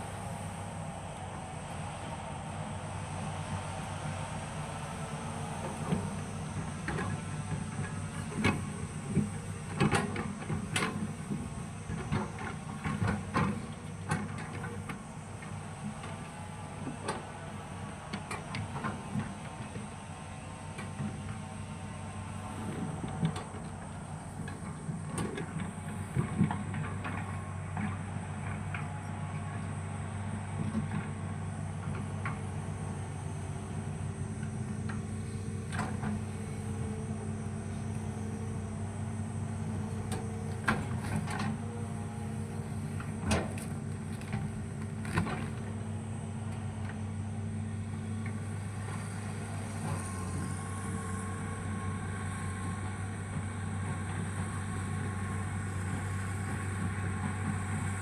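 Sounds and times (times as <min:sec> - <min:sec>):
excavator diesel engine: 0:00.0 - 0:58.0
hydraulic whine: 0:00.0 - 0:58.0.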